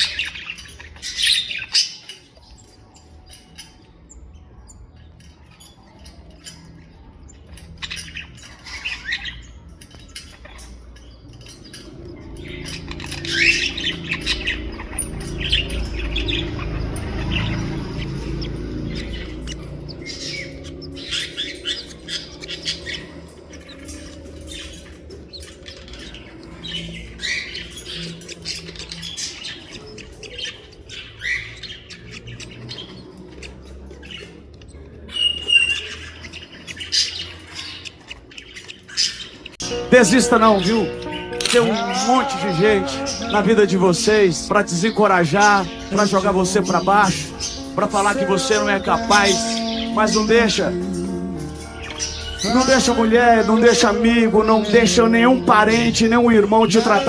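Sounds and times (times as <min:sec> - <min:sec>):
pet birds chirping and squawking: 0:00.0 - 0:57.0.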